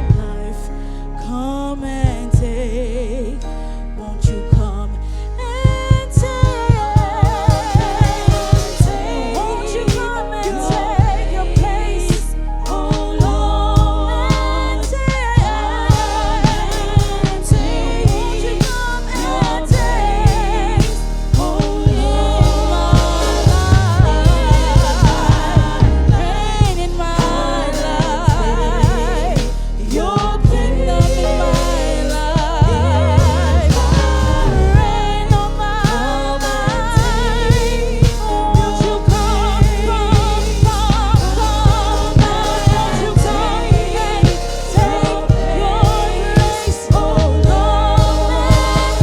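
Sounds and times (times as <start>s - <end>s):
solo voice singing: 0.0s - 49.0s
steady bass: 0.0s - 49.0s
band accompaniment: 5.6s - 49.0s
drum beat: 5.7s - 36.1s, 36.8s - 49.0s.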